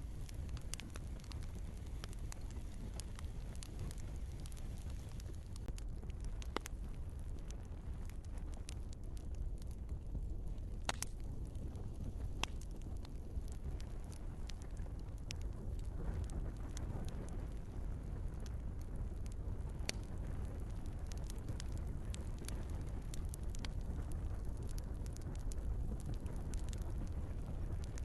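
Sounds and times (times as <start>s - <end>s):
burning logs popping: 0.0s - 28.0s
low rumble of flames: 0.0s - 28.0s.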